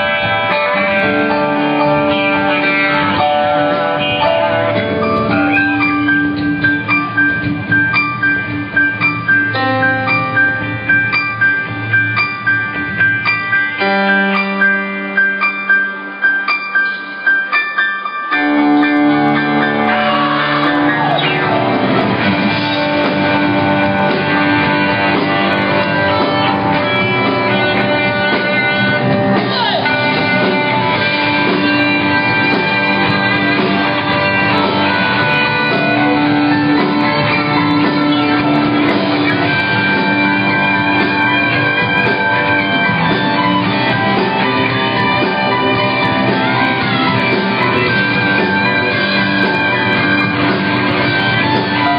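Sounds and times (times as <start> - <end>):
live rock band playing loud: 0.0 - 51.9.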